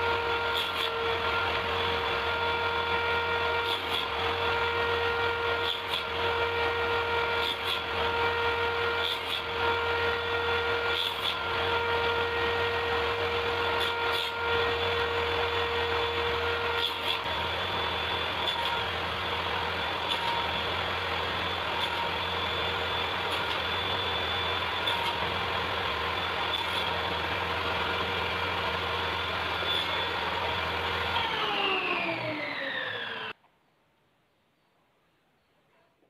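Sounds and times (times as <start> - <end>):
power tool motor running: 0.0 - 33.4.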